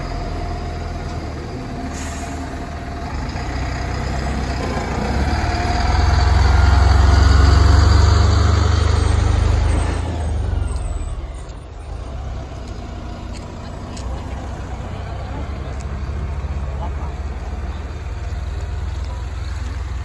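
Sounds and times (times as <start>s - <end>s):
diesel truck driving past: 0.0s - 20.0s.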